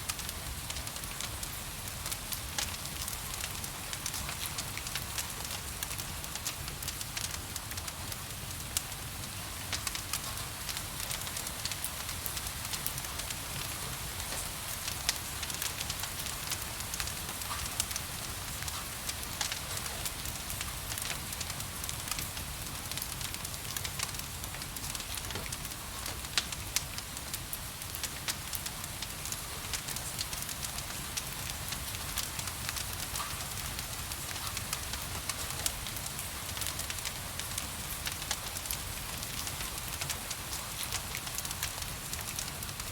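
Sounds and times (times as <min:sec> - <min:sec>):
wood fire crackling: 0:00.1 - 0:42.9.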